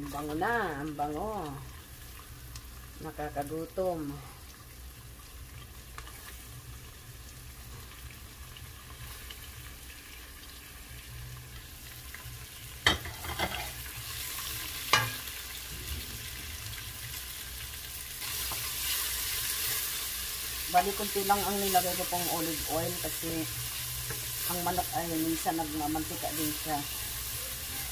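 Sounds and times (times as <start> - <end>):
onion and garlic sizzling in oil: 0.0 - 27.9.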